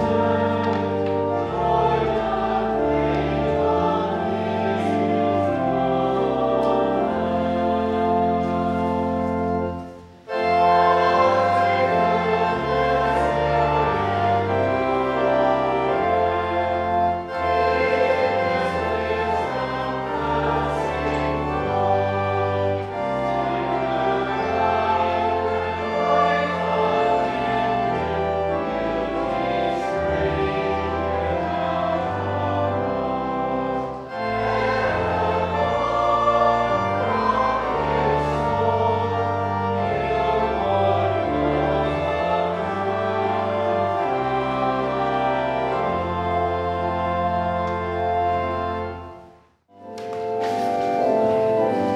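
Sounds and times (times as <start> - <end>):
choir singing sustained chords: 0.0 - 49.4, 50.2 - 51.9
instrumental accompaniment: 0.0 - 51.9.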